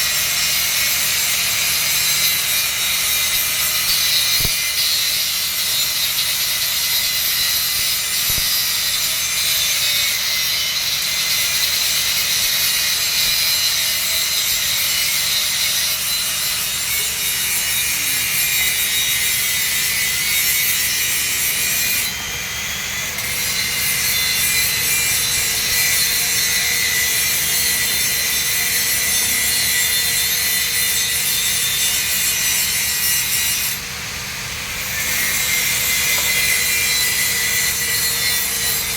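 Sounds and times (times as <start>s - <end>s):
welding arc crackling and hissing: 0.0s - 38.9s.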